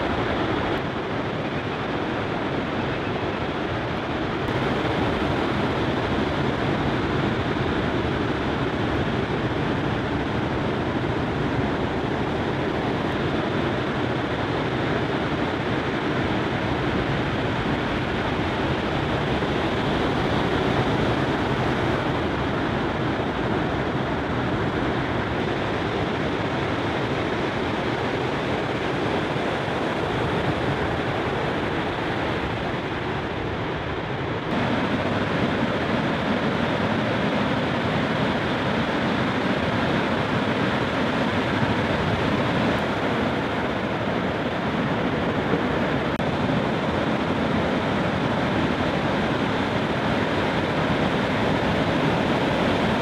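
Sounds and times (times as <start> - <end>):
ocean surf rushing: 0.0 - 53.0.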